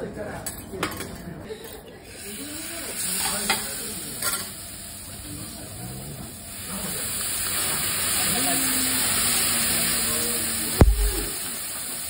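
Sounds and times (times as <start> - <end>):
liquid hissing on hot plate: 2.0 - 12.0
steak sizzling on griddle: 2.1 - 12.0.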